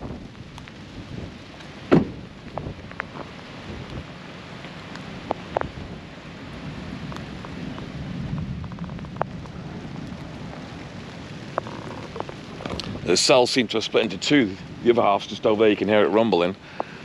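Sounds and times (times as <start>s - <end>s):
thunder rumbling: 0.0s - 4.2s, 4.9s - 16.1s
steady rain: 0.0s - 17.0s.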